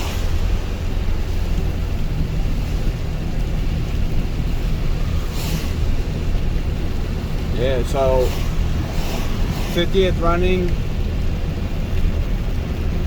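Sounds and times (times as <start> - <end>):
car engine and road rumble: 0.0 - 13.0
tyre swish on wet road: 0.0 - 13.0.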